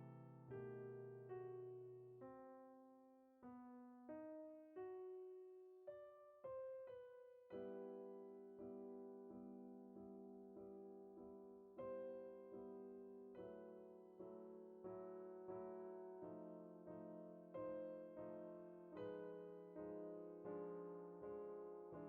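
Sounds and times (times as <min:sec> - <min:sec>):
quiet solo piano music: 0:00.0 - 0:22.0.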